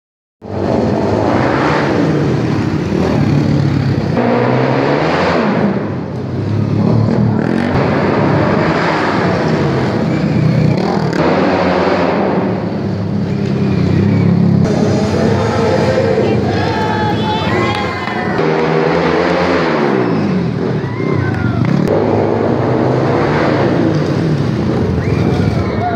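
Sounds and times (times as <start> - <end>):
dirt bike engines revving: 0.4 - 25.9.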